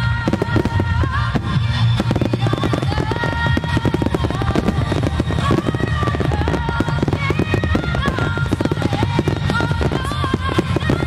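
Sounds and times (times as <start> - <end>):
loud music: 0.0 - 11.0.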